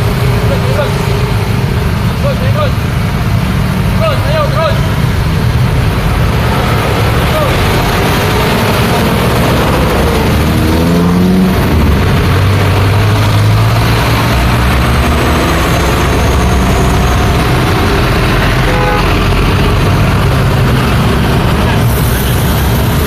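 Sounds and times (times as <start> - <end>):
engine pulling away: 0.0 - 23.0
road traffic rumble: 0.0 - 23.0.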